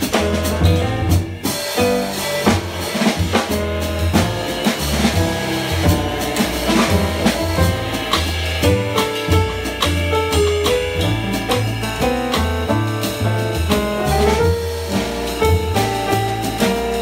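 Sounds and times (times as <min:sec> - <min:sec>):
drum kit struck with sticks: 0:00.0 - 0:17.0
grand piano: 0:00.0 - 0:17.0
upright double bass: 0:00.0 - 0:17.0.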